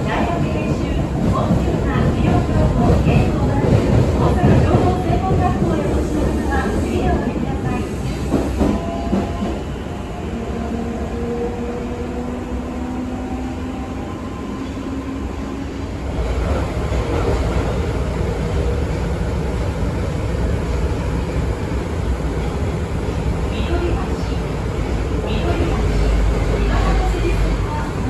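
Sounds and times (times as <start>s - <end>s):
subway inverter whine: 0.0s - 28.0s
wheels rumbling on rail: 0.0s - 28.0s.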